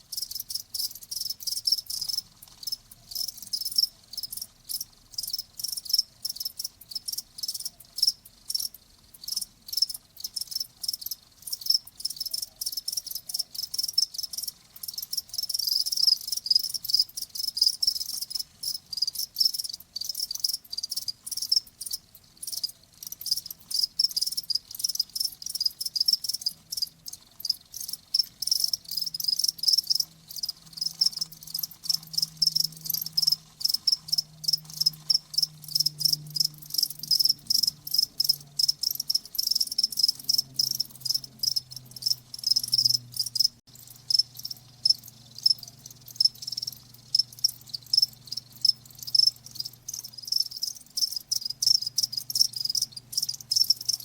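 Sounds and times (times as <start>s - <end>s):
crickets chirping: 0.1s - 54.0s.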